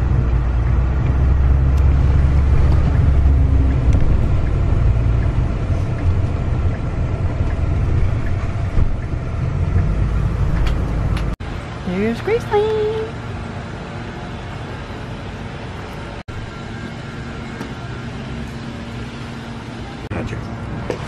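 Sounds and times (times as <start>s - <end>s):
engine and road rumble: 0.0s - 21.0s.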